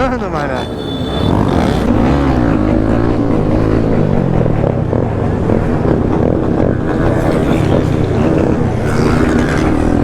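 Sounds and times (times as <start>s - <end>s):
motorcycle engine revving: 1.0s - 10.0s.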